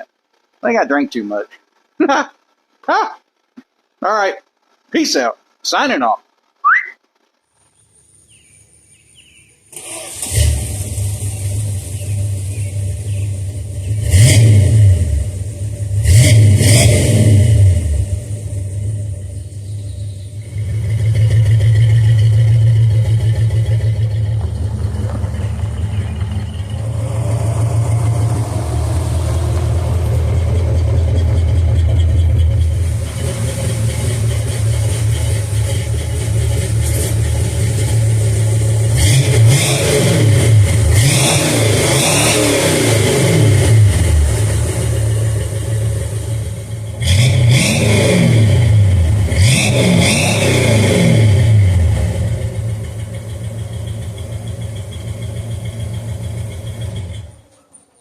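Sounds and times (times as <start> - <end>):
car engine rumbling and revving: 6.3 - 57.5.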